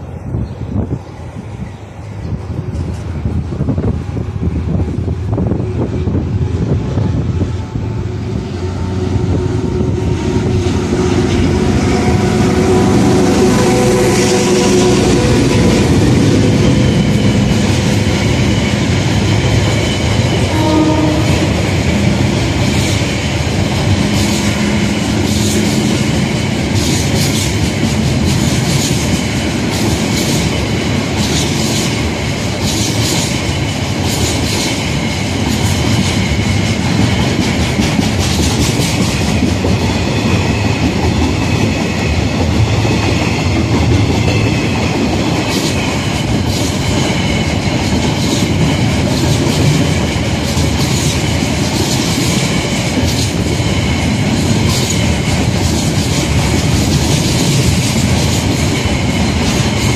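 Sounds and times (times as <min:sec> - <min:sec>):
diesel locomotive engine: 0:00.0 - 0:59.9
train wagons rumbling: 0:00.0 - 0:59.9.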